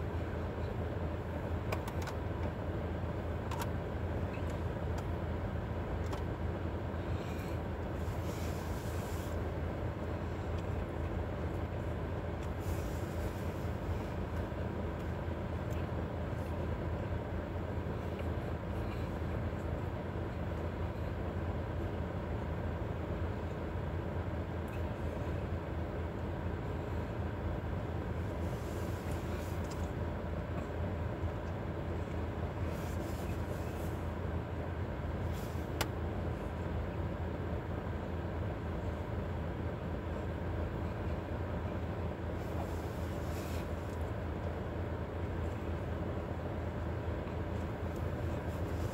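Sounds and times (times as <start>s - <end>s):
low rumble inside car: 0.0s - 48.9s.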